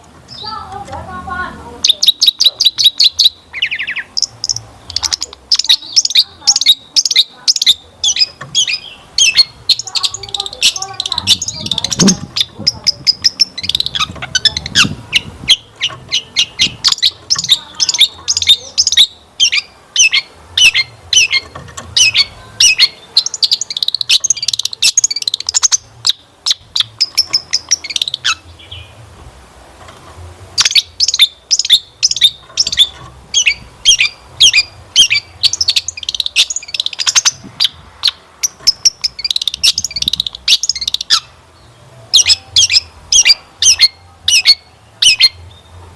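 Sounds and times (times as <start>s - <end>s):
bird singing chattering notes: 0.3s - 29.0s, 30.5s - 45.8s.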